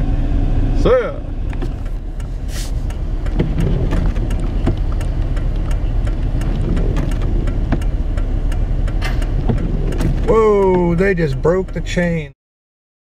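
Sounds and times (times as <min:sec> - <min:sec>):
vehicle rumble: 0:00.0 - 0:12.4
wind: 0:00.0 - 0:12.4.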